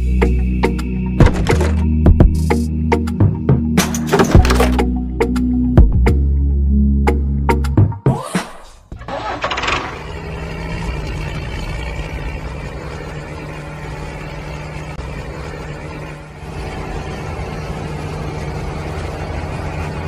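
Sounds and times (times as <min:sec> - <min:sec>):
tractor engine running: 0:00.0 - 0:06.2, 0:08.9 - 0:20.0.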